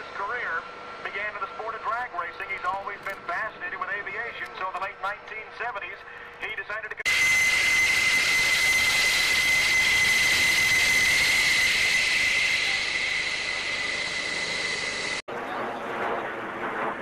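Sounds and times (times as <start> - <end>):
jet engine roaring with whine: 0.0 - 17.0.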